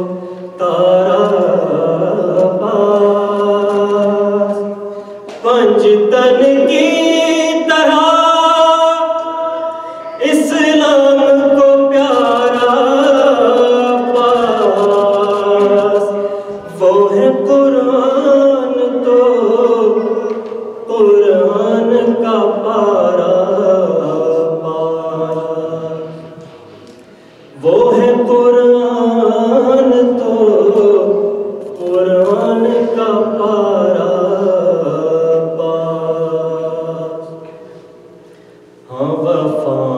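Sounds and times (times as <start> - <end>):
man chanting: 0.0 - 26.4, 27.6 - 37.5, 38.9 - 39.9.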